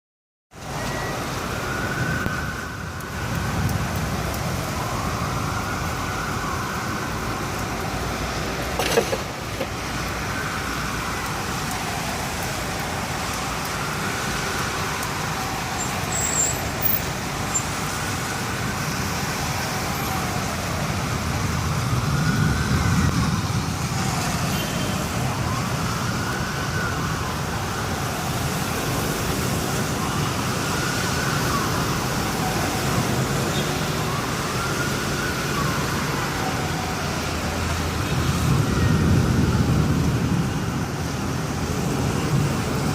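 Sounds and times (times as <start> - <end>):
siren wailing: 0.6 - 42.9.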